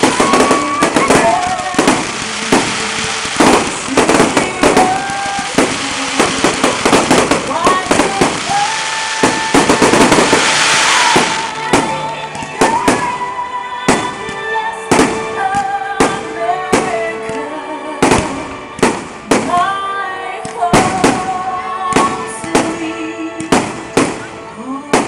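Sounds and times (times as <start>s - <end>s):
fireworks bursting: 0.0s - 19.8s, 20.4s - 25.0s
music: 0.0s - 25.0s.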